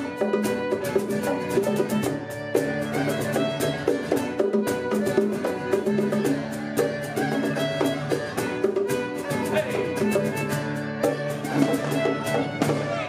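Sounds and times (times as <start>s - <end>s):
fiddle melody: 0.0s - 13.0s
strummed acoustic guitar: 0.0s - 13.0s.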